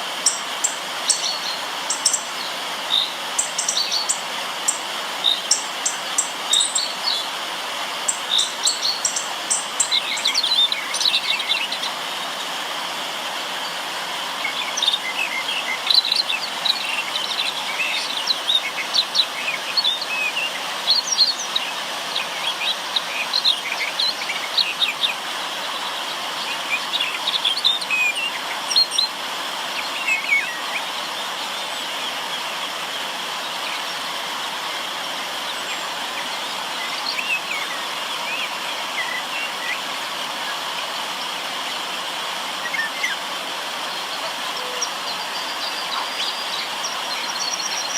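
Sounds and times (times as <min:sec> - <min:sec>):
river water rushing: 0:00.0 - 0:47.9
small birds chirping: 0:00.2 - 0:07.3, 0:08.0 - 0:12.4, 0:14.4 - 0:47.9.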